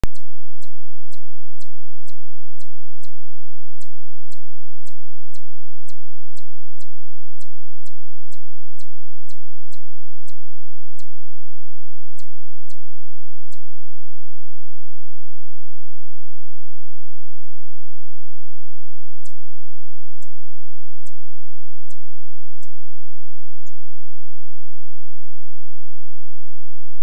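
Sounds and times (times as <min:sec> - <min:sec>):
steady low hum: 0:00.1 - 0:27.0.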